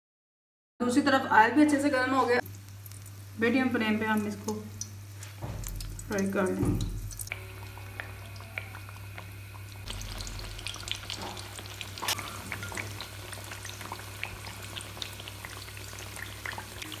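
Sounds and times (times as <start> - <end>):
bread sizzling in hot oil: 2.4 - 17.0.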